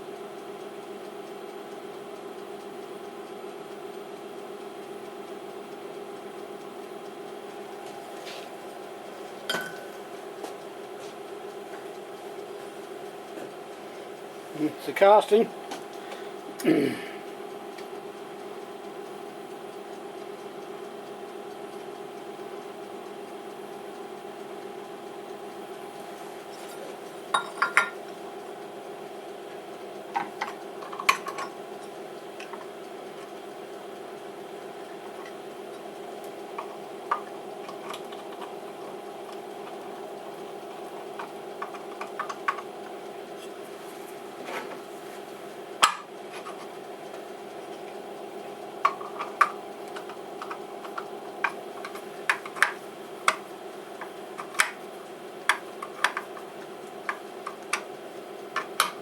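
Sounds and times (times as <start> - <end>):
machine humming: 0.0 - 59.0.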